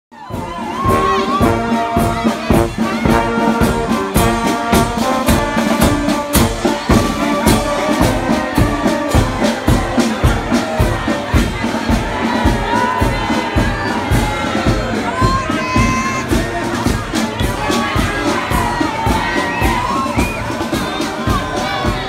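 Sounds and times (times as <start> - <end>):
brass band playing: 0.1 - 22.0
steady drum beat: 0.2 - 22.0.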